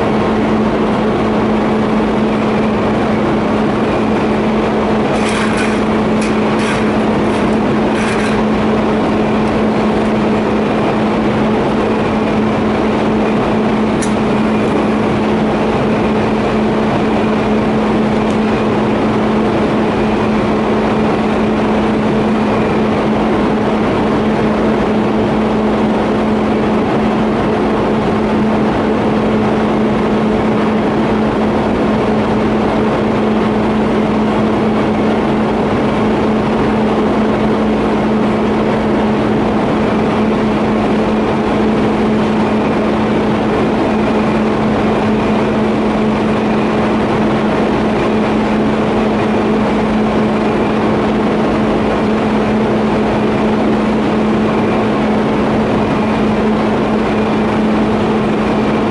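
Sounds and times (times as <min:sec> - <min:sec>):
welding arc buzzing hum: 0:00.0 - 0:58.9.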